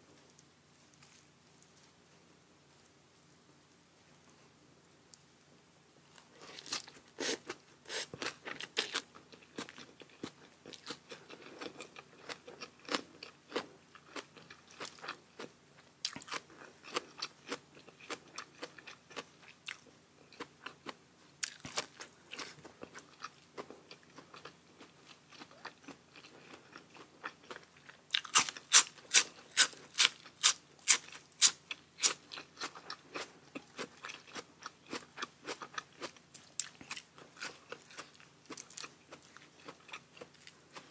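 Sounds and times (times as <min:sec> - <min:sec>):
chewing and crunching food: 0:06.1 - 0:40.9.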